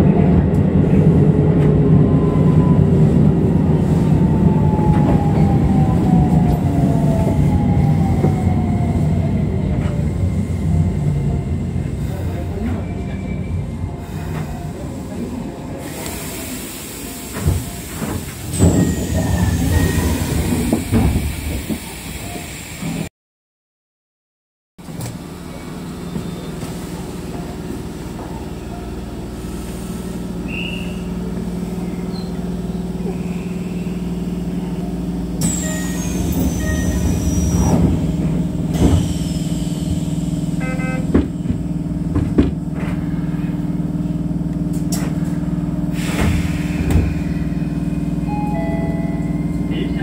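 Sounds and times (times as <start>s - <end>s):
electric train hum: 0.0s - 23.1s, 24.8s - 50.0s.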